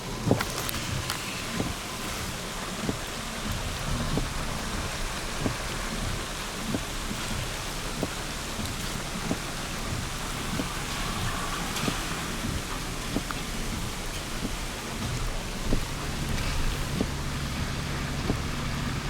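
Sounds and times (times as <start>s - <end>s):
continuous hiss: 0.0s - 19.0s
footsteps walking: 0.3s - 19.0s.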